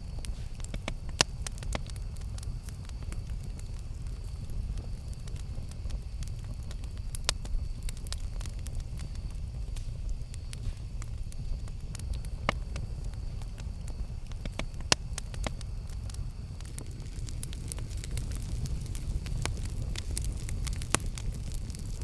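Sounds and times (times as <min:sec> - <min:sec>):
fire crackling and popping: 0:00.0 - 0:22.0
flames rumbling: 0:00.0 - 0:22.0.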